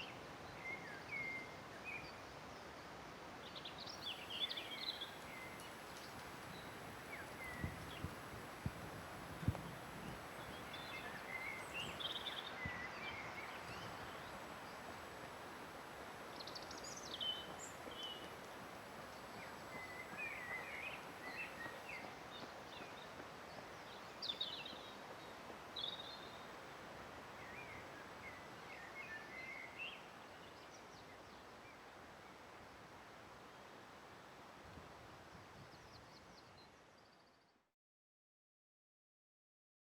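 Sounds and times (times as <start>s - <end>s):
faint steady rushing hiss: 0.0s - 37.7s.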